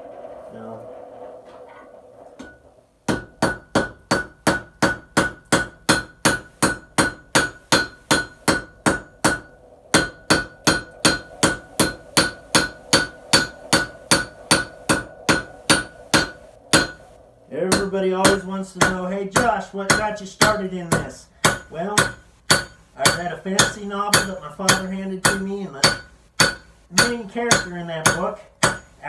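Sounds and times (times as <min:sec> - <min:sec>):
hammer striking hot steel on anvil: 0:02.4 - 0:17.1, 0:17.7 - 0:29.0.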